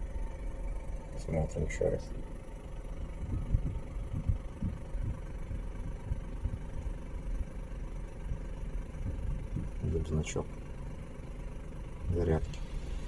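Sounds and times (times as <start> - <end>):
car engine idling: 0.0 - 13.0
faint steady hum: 0.0 - 13.0.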